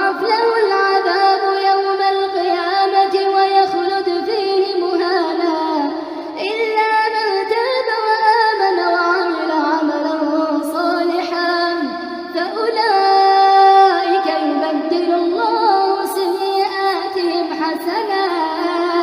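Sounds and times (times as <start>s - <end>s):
person chanting recitation: 0.0s - 19.0s.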